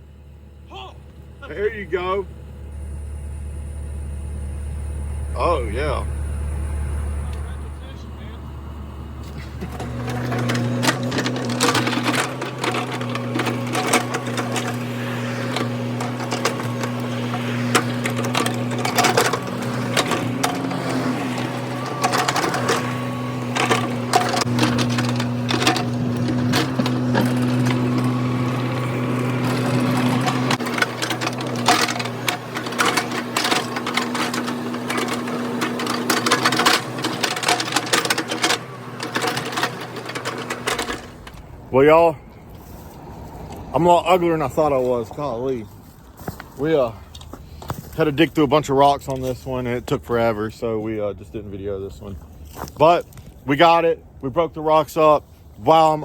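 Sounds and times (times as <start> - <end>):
mini excavator engine running: 0.0 - 54.3
bucket and tracks scraping and clanking: 6.9 - 53.8.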